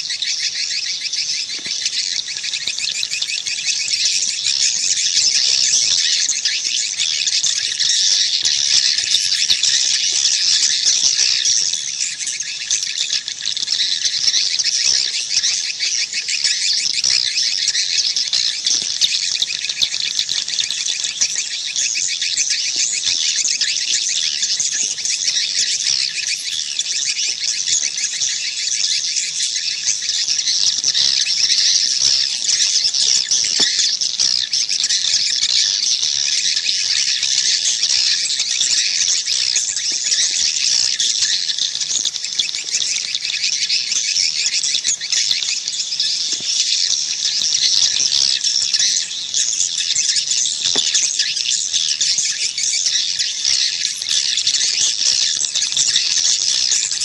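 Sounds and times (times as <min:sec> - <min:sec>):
swiftlets twittering and chirping: 0:00.0 - 0:57.0.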